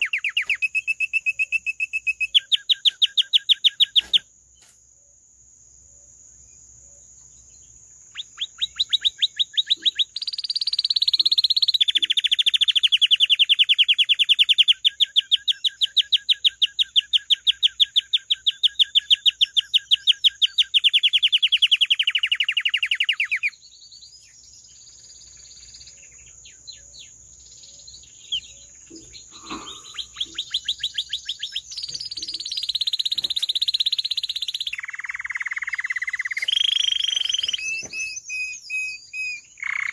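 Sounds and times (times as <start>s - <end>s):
canary singing trills: 0.0s - 4.7s, 6.4s - 39.9s.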